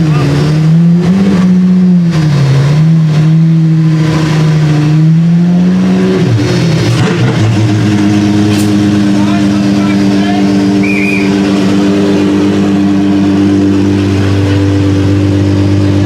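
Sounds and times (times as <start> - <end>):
car engine at part throttle: 0.0 - 16.0.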